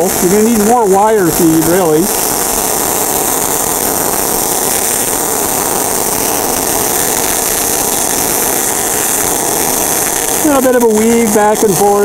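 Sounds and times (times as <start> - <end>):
welding arc: 0.0 - 12.0.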